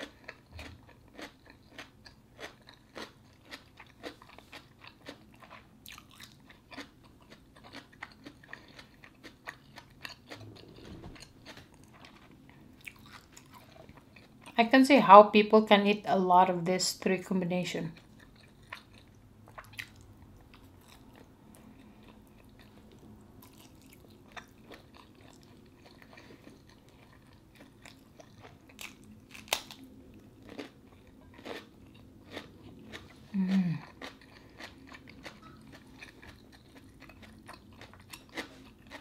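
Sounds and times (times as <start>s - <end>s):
chewing and swallowing: 0.0s - 14.6s, 18.0s - 39.0s
crisp cucumber crunch: 0.0s - 14.7s, 22.0s - 39.0s
low hum from person: 0.0s - 39.0s.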